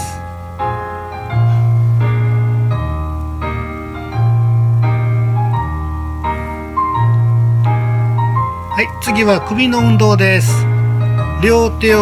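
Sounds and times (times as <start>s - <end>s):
gentle keyboard music: 0.0s - 12.0s.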